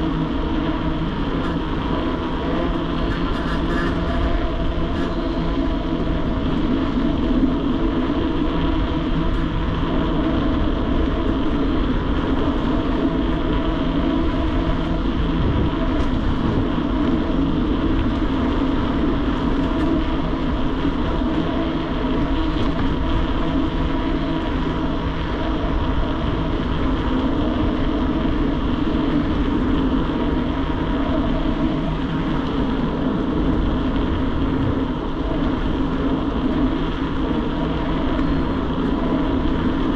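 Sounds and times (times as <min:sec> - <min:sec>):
steady hum: 0:00.0 - 0:39.9
wind and road noise: 0:00.0 - 0:39.9.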